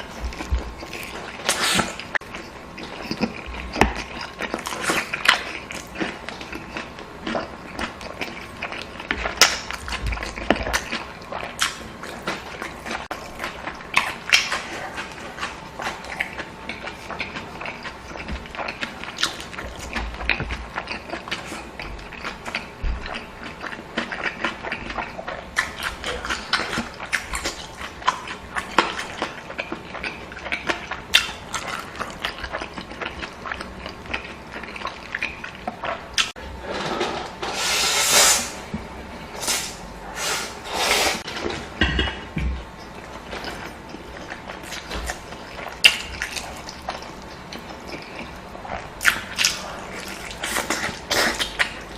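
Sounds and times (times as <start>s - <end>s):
chewing: 0.0s - 36.4s, 42.6s - 51.9s.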